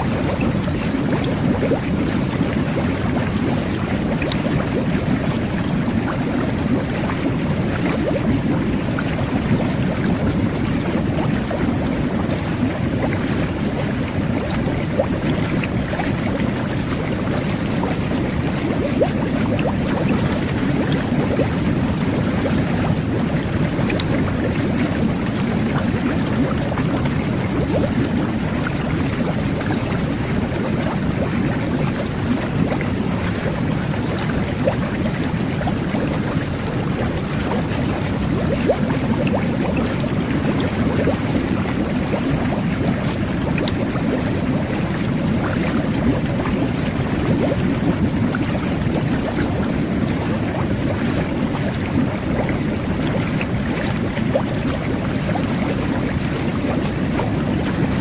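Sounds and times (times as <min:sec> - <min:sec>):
jet bath bubbling water: 0:00.0 - 0:58.0.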